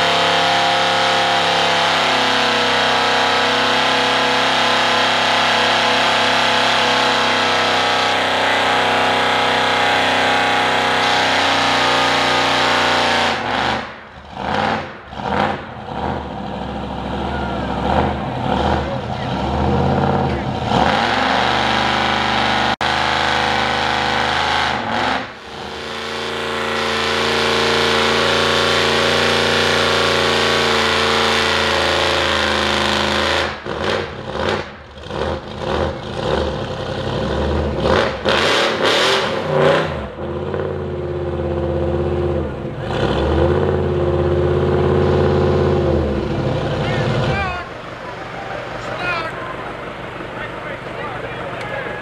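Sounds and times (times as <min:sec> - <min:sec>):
truck engine revving: 0:00.0 - 0:52.0.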